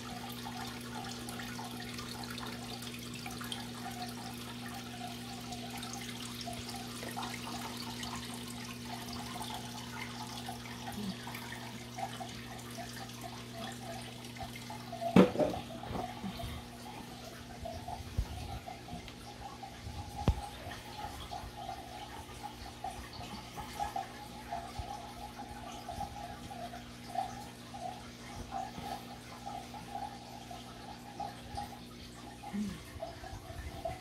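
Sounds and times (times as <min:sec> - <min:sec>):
aquarium water gurgling: 0:00.0 - 0:34.0
low pump hum: 0:00.0 - 0:34.0.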